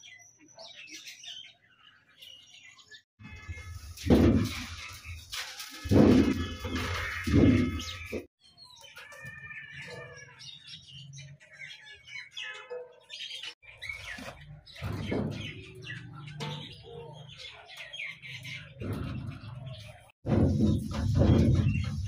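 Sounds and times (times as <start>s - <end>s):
small birds chirping: 0.0s - 3.7s, 6.0s - 22.0s.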